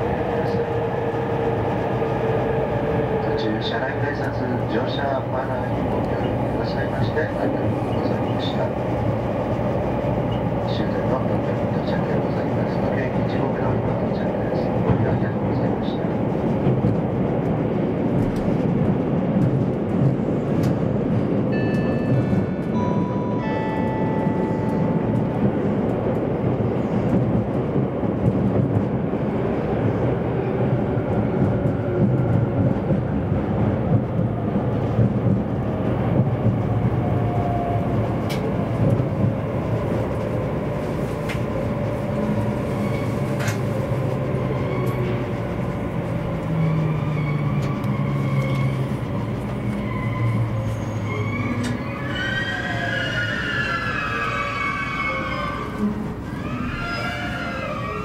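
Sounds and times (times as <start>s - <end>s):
train rumble and rail noise: 0.0s - 58.0s.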